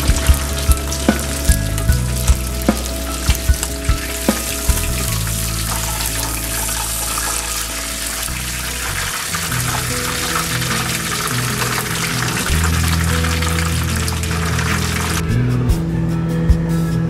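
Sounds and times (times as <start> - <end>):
hot oil sizzling in a wok: 0.0 - 15.2.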